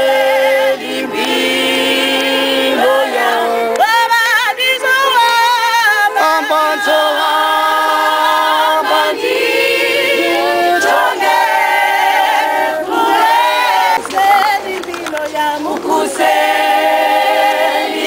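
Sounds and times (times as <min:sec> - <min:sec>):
choir singing a cappella: 0:00.0 - 0:18.0.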